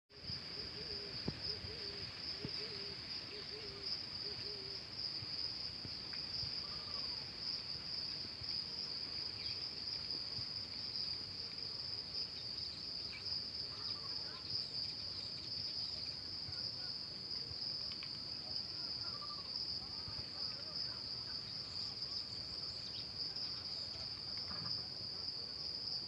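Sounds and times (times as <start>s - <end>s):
insects trilling: 0.2s - 26.0s.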